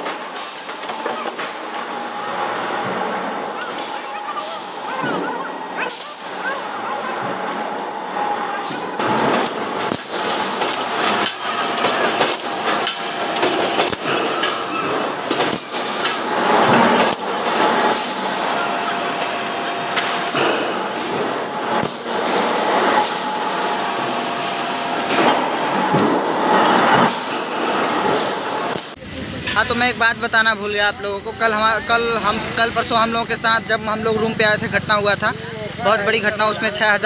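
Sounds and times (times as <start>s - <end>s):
steady machinery noise: 0.0s - 37.0s.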